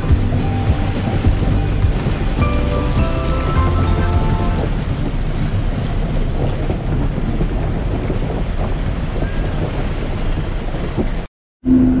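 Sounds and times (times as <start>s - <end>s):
water rushing and splashing: 0.0s - 11.3s
low engine hum inside bus: 0.0s - 12.0s
off-road vehicle engine: 0.0s - 12.0s.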